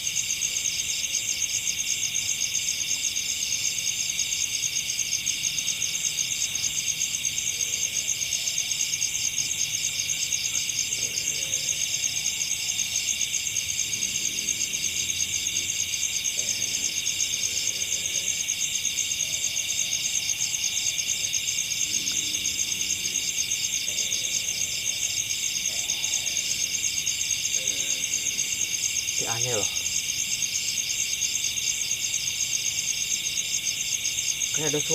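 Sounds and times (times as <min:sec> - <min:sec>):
crickets and insects trilling: 0:00.0 - 0:34.9.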